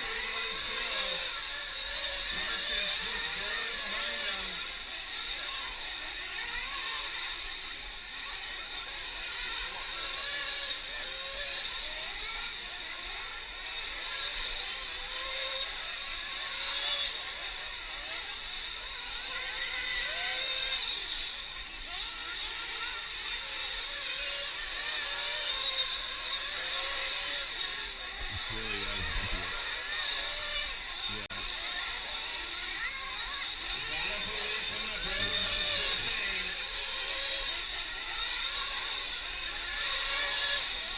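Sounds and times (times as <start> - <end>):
rc truck engines whining: 0.0 - 40.9.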